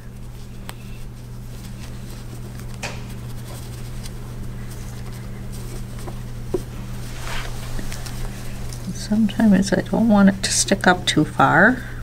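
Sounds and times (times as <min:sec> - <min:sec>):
fabric rustling: 0:00.0 - 0:09.7
low electrical hum: 0:00.0 - 0:12.0.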